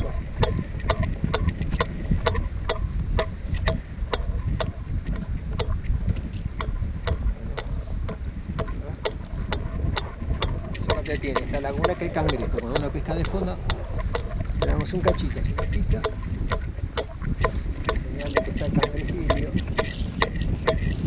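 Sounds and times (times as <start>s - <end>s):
fishing reel gears ticking: 0.0s - 5.8s, 6.6s - 21.0s
wind rumble on microphone: 0.0s - 21.0s.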